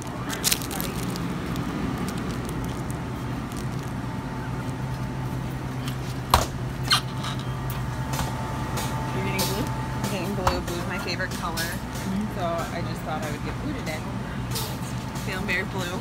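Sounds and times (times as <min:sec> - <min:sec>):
slushie dispenser humming: 0:00.0 - 0:16.0.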